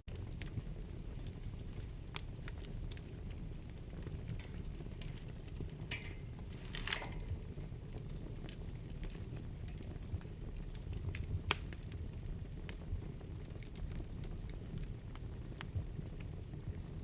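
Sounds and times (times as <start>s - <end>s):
fire flames rumbling: 0.1s - 17.0s
wood fire crackling and popping: 0.1s - 17.0s.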